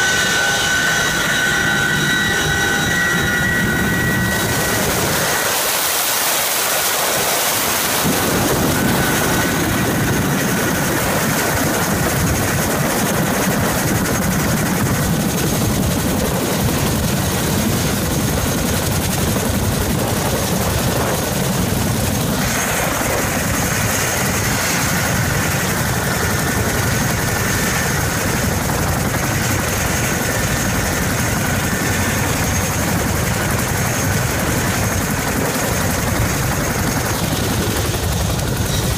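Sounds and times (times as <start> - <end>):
helicopter rotor and engine noise: 0.0 - 38.9
high turbine whine: 0.0 - 38.9.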